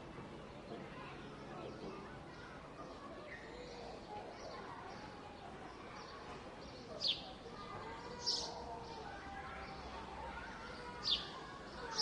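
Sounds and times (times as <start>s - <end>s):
distant voices: 0.0s - 12.0s
songbird chirping: 0.4s - 12.0s.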